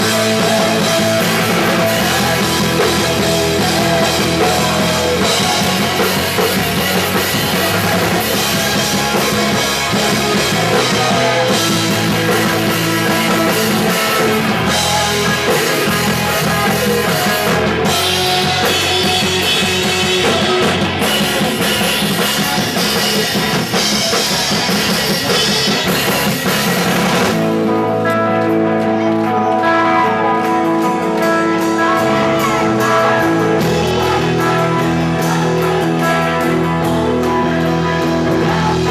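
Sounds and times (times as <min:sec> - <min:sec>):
electric guitars sustained notes: 0:00.0 - 0:38.9
punk rock band playing live: 0:00.0 - 0:38.9.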